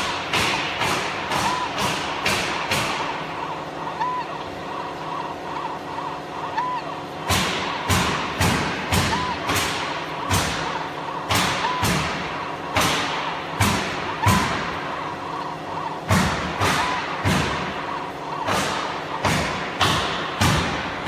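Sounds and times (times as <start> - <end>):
laser machine humming: 0.0 - 21.0.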